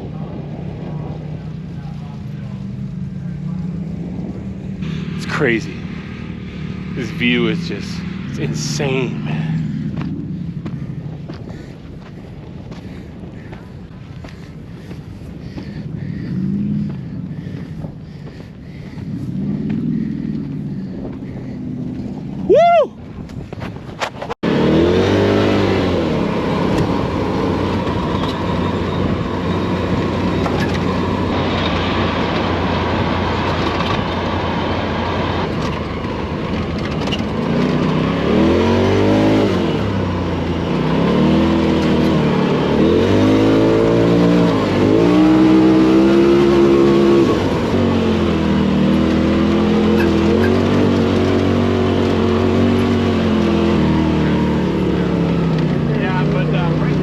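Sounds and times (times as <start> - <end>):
race vehicle engine revving: 0.0 - 22.8, 24.0 - 57.0
tyre and terrain noise: 0.0 - 57.0.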